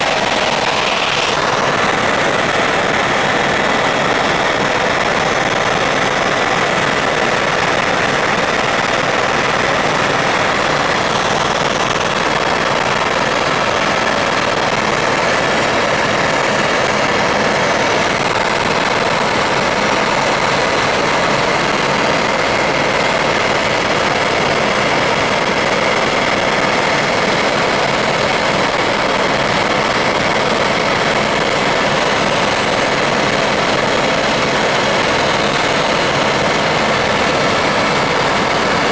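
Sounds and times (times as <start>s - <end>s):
helicopter engine and rotor noise: 0.0s - 38.9s.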